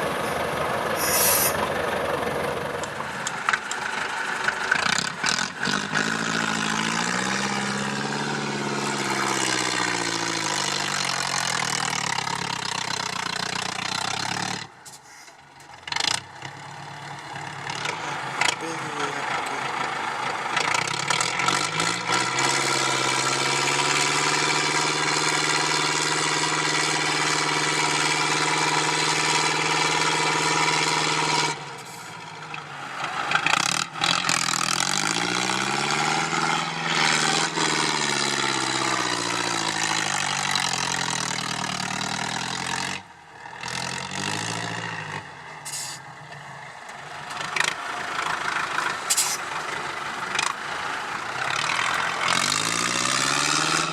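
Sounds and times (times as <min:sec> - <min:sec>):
diesel truck engine revving: 0:00.0 - 0:15.0, 0:15.6 - 0:53.9.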